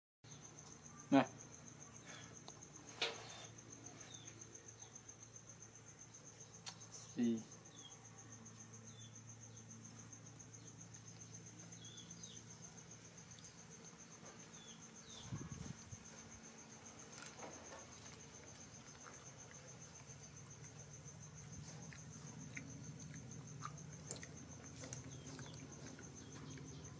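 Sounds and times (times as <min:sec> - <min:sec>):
insects chirring in pulsing trill: 0:00.3 - 0:26.9.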